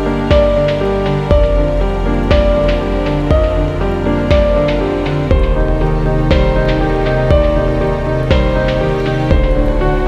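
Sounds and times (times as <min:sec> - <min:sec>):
sustained music chords: 0:00.0 - 0:10.0
steady beat: 0:00.3 - 0:10.0.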